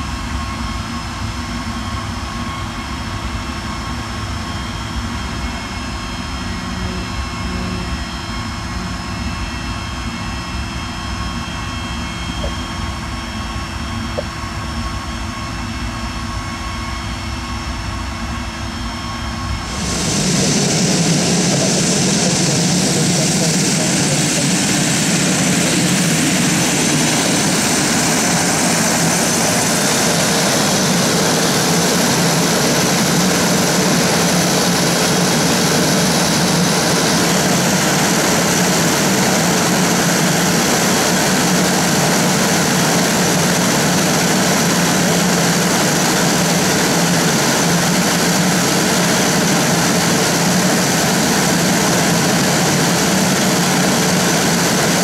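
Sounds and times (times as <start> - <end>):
turboprop engine running at low power: 0.0 - 55.0.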